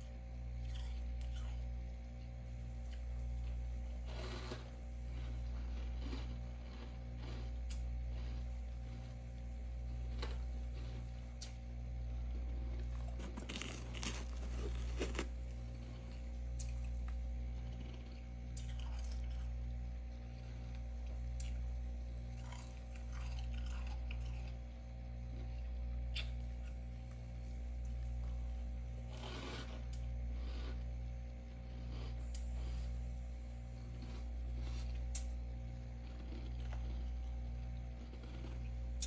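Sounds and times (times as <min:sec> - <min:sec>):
frost crunching and crackling: 0:00.0 - 0:33.1, 0:33.7 - 0:39.0
low hum: 0:00.0 - 0:39.0.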